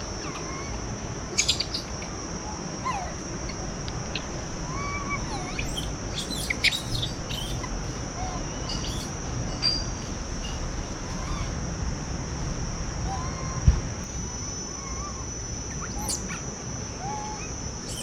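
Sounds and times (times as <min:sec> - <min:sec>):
birds chirping and whistling: 0:00.0 - 0:11.6, 0:14.8 - 0:18.0
high-pitched insect drone: 0:00.0 - 0:18.0.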